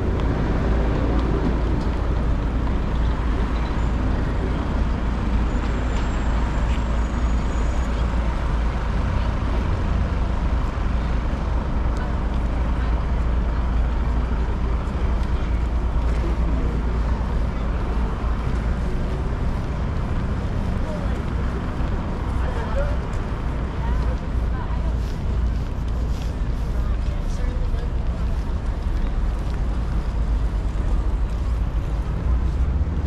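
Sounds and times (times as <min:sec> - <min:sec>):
distant road traffic rumble: 0:00.0 - 0:33.0.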